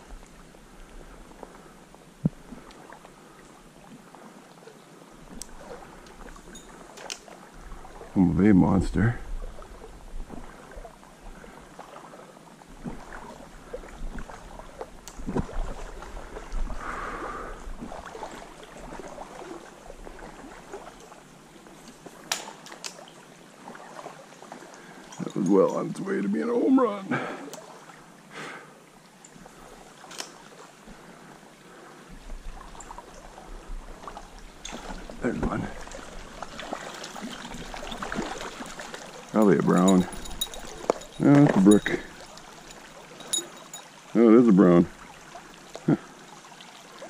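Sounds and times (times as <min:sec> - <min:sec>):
stream water flowing: 0:00.0 - 0:47.0.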